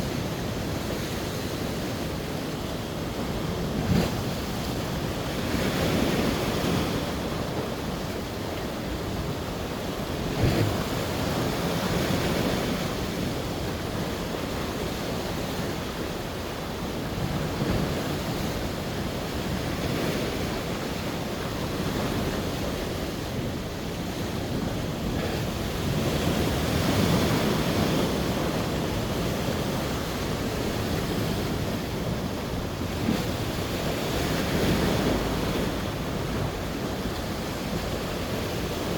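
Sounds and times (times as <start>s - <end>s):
surf breaking ashore: 0.0s - 38.9s.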